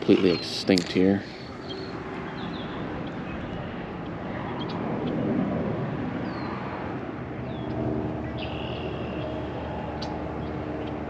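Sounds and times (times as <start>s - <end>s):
low droning hum: 0.0s - 11.0s
steady rushing noise: 0.0s - 11.0s.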